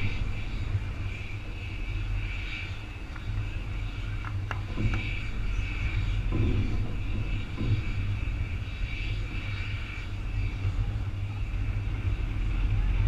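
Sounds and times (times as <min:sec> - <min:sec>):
distant jet engine rumble: 0:00.0 - 0:13.0.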